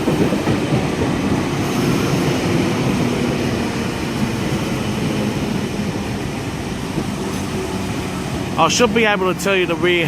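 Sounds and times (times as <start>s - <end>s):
electric train humming: 0.0s - 10.0s.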